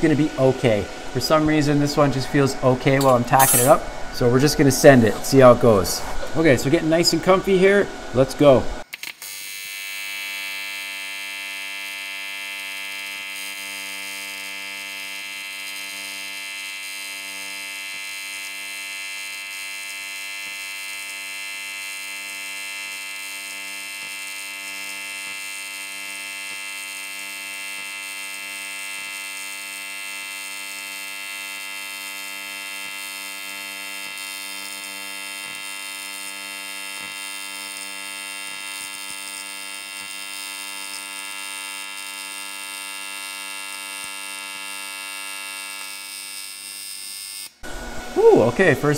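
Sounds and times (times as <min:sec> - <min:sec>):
welding arc buzzing: 0:00.1 - 0:48.9.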